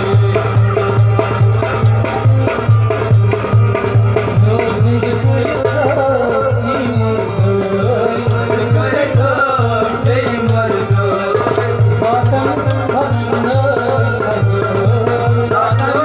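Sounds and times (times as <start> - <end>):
man singing: 0.0 - 2.5, 4.1 - 16.0
hand drum beat: 0.0 - 16.0
harmonium melody: 0.0 - 16.0.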